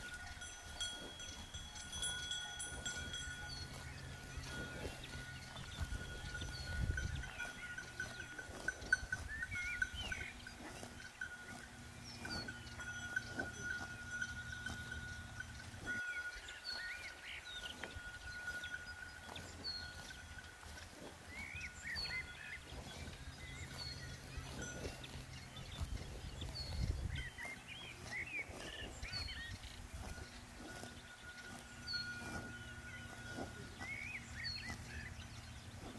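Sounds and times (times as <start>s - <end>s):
cowbells clanking: 0.0s - 35.9s.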